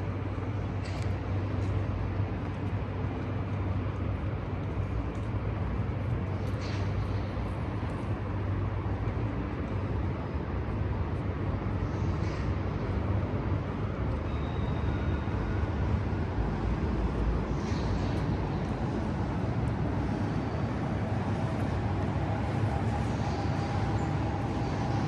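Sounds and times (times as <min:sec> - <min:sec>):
city background noise: 0:00.0 - 0:25.0
constant low hum: 0:00.0 - 0:25.0.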